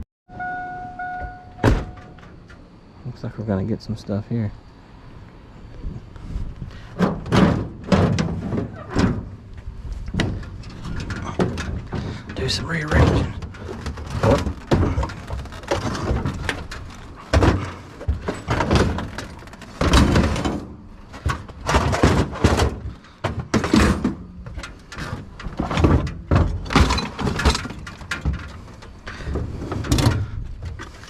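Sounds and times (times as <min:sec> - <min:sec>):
hard objects thumping and scraping: 0:05.9 - 0:31.0.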